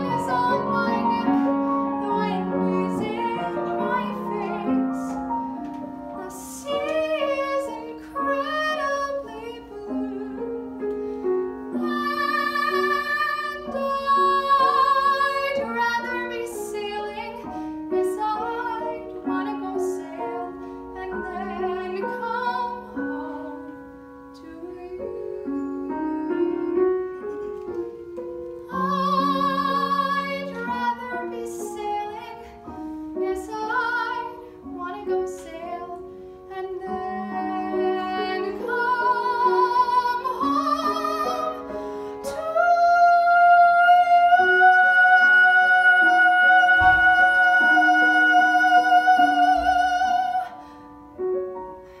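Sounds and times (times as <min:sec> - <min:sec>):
woman singing with vibrato: 0:00.0 - 0:05.2, 0:06.1 - 0:10.7, 0:11.7 - 0:23.7, 0:24.3 - 0:27.2, 0:28.6 - 0:32.6, 0:33.2 - 0:50.6
grand piano: 0:00.0 - 0:52.0.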